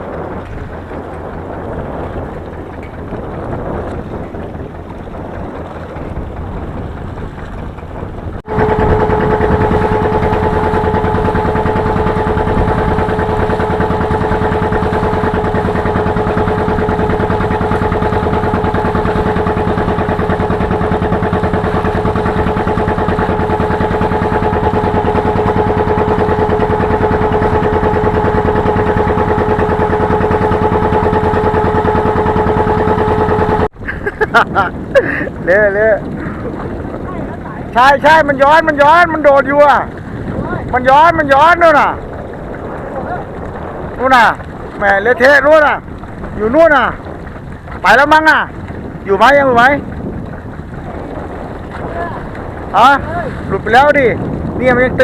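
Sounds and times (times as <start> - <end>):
boat engine whining: 0.0 - 55.0
wind buffeting microphone: 0.0 - 55.0.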